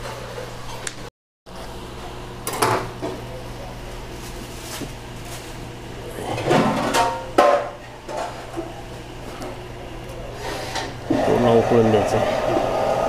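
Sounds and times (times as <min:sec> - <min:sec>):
steady low hum: 0:01.5 - 0:13.0.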